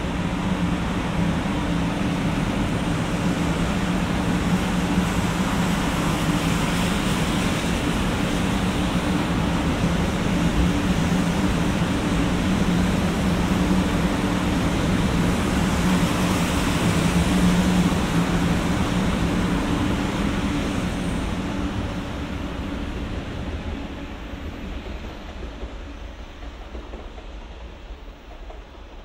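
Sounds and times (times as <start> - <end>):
train wheels on rails: 0.0 - 29.0.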